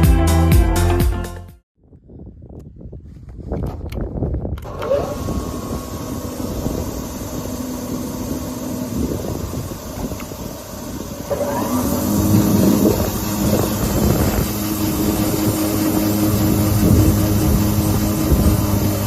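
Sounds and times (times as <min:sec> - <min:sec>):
spindle moulder whirring: 0:03.7 - 0:19.0.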